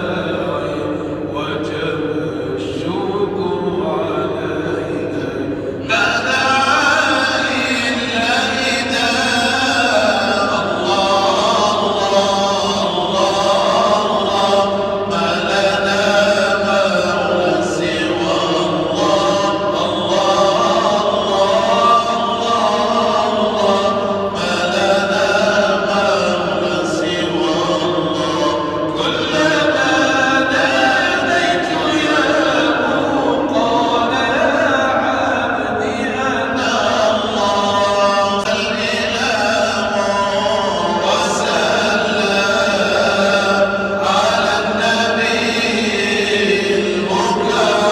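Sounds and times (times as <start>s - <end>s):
group chanting religious chant: 0.0s - 47.9s.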